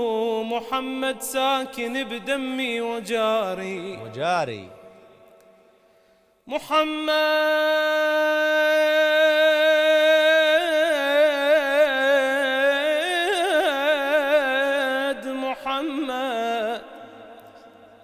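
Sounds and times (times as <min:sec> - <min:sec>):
man singing: 0:00.0 - 0:05.1, 0:06.4 - 0:18.0.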